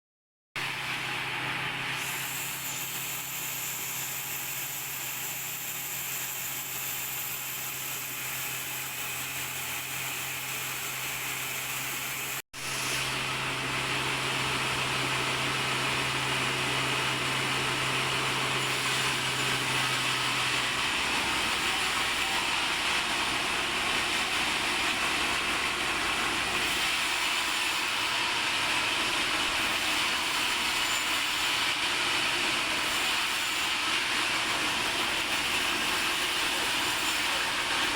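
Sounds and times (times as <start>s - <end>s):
sawmill machinery running: 0.6s - 37.9s.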